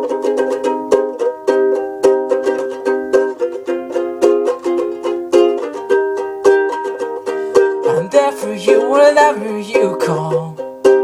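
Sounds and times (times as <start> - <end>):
ukulele strummed chords: 0.0 - 11.0.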